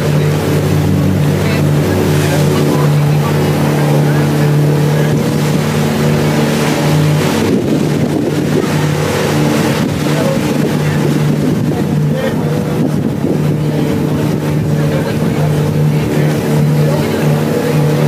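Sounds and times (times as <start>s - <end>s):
boat engine humming: 0.0s - 18.0s
rush of noise: 0.0s - 18.0s
water rushing past hull: 0.0s - 18.0s.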